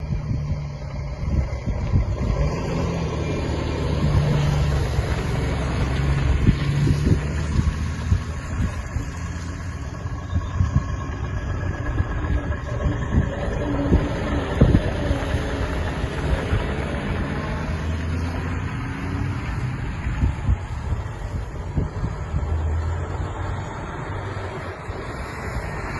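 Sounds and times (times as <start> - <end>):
lorry engine running: 0.0 - 25.9
wind buffeting microphone: 0.0 - 25.9.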